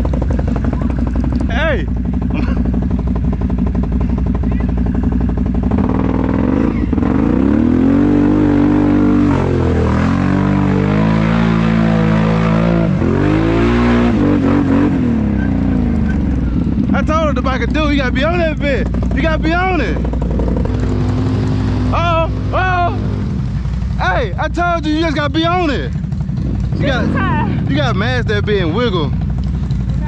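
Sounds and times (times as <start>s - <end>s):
quad engine idling and revving: 0.0s - 30.0s.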